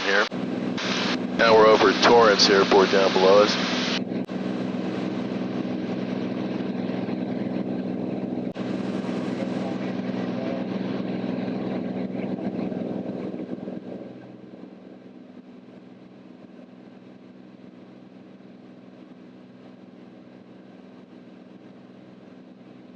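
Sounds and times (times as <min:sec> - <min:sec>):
aircraft engine and propeller droning: 0:00.0 - 0:22.9.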